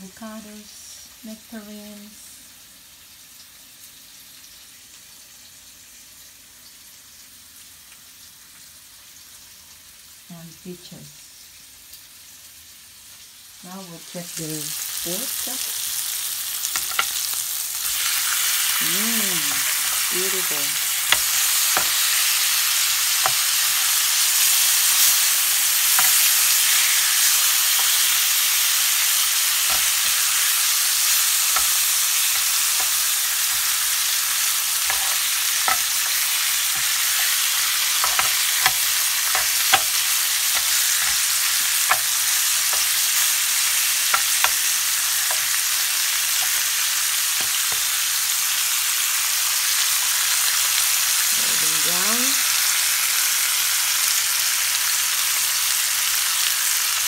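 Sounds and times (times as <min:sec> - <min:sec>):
meat sizzling in a grill pan: 0:00.0 - 0:57.0.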